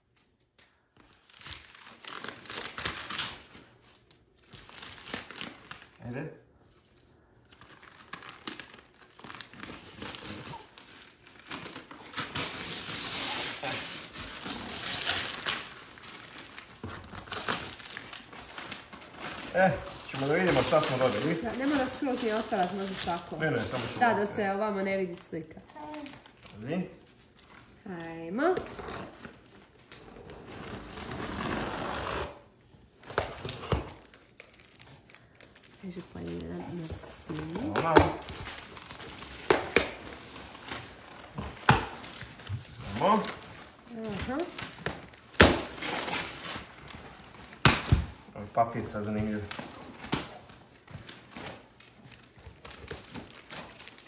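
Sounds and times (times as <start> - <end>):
wrapping paper tearing and crinkling: 0.8 - 24.3, 25.7 - 27.8, 28.8 - 54.0.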